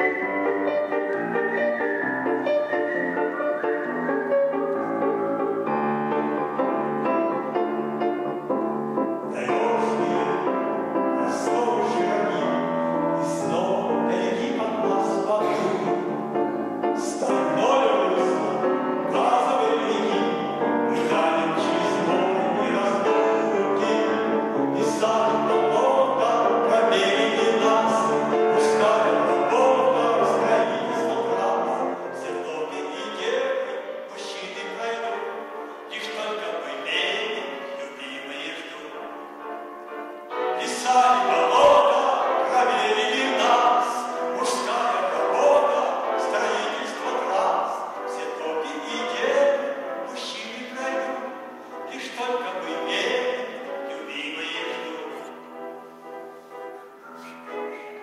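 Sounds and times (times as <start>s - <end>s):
grand piano playing: 0.0s - 58.0s.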